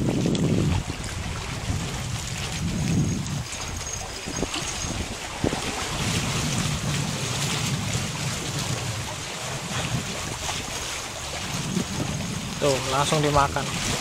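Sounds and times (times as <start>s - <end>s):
water washing: 0.0s - 14.0s
wind buffeting microphone: 0.0s - 14.0s.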